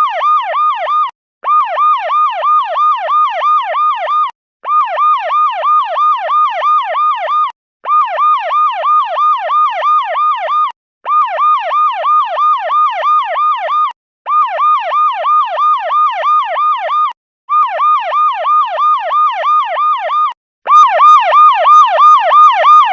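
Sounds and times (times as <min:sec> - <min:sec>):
police siren ringtone yelp: 0:00.0 - 0:22.9.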